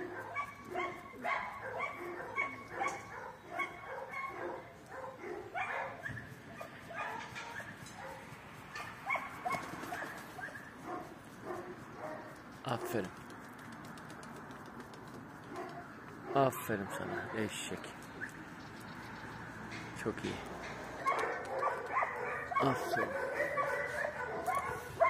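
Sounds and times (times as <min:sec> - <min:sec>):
dog barking and yipping: 0:00.0 - 0:13.0, 0:15.4 - 0:18.6, 0:20.6 - 0:25.0.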